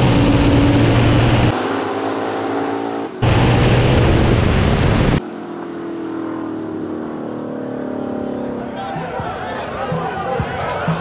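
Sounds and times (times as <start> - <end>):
drag race cars roaring: 0.0 - 11.0
steady engine hum: 0.0 - 11.0.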